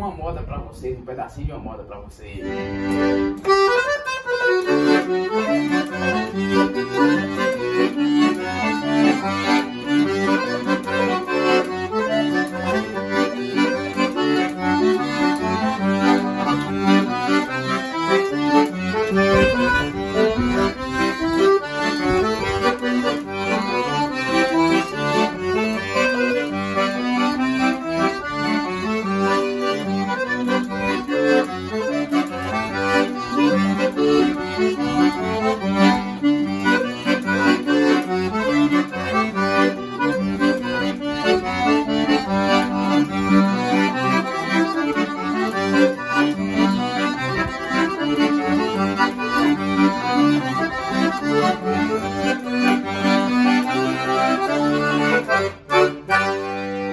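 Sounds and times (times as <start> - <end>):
accordion playing a folk tune: 2.1 - 56.9.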